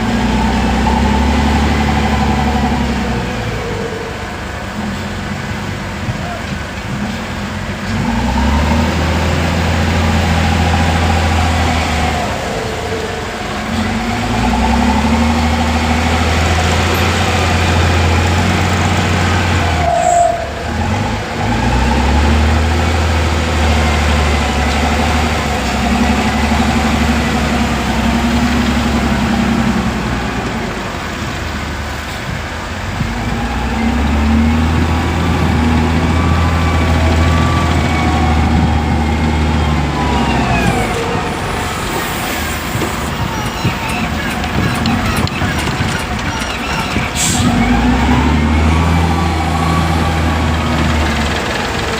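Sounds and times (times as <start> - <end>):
heavy diesel engine under load: 0.0 - 51.9.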